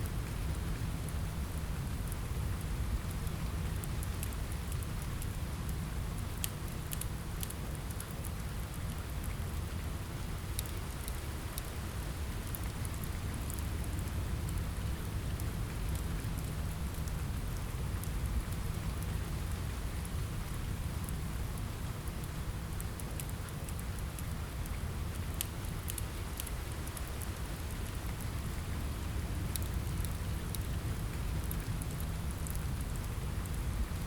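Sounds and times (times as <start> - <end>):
steady rain: 0.0 - 34.0
wood fire crackling: 0.0 - 34.0.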